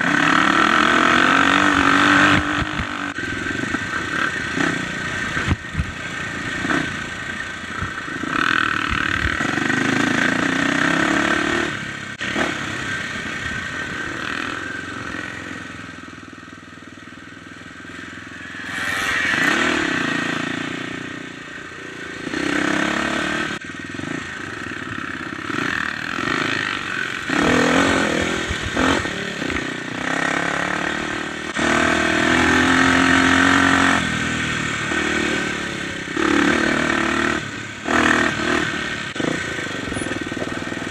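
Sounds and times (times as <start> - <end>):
dirt bike engine revving: 0.0 - 16.2, 17.2 - 40.9.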